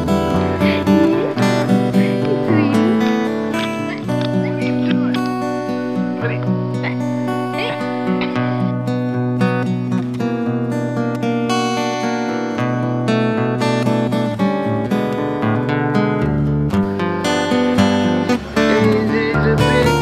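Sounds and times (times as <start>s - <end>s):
acoustic guitar melody: 0.0s - 20.0s.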